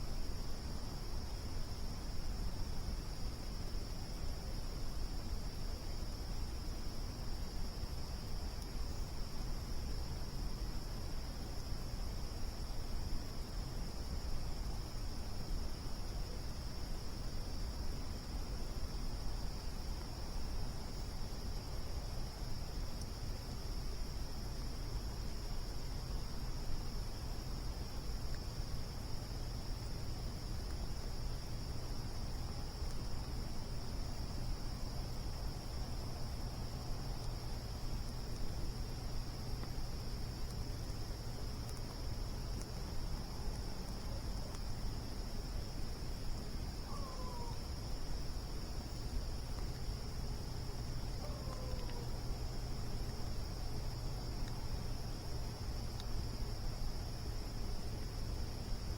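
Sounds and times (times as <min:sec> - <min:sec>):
crickets trilling: 0:00.0 - 0:58.9
campfire hissing: 0:00.2 - 0:58.9.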